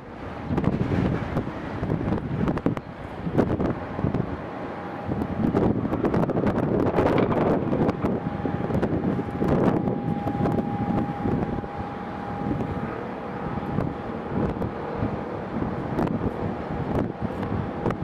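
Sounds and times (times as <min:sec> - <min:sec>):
faint jet engine whine: 0:00.0 - 0:18.0
wind buffeting microphone: 0:00.0 - 0:18.0.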